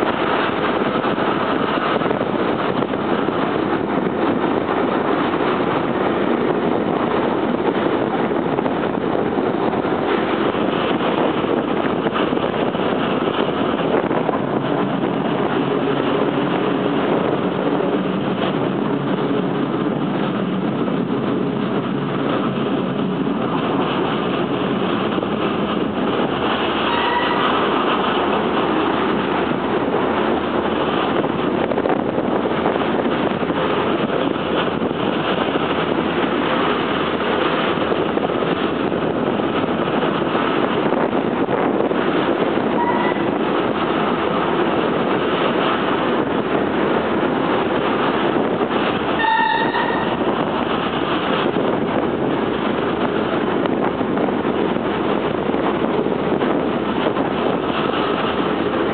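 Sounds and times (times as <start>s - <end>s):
electric train running: 0.0s - 58.9s.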